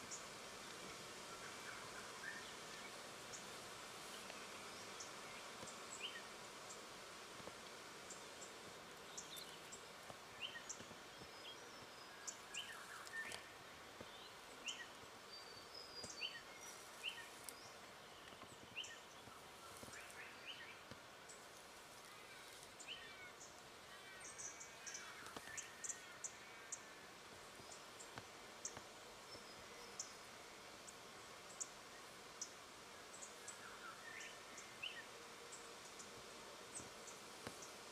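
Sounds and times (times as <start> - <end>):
low steady outdoor hiss: 0.0 - 37.9.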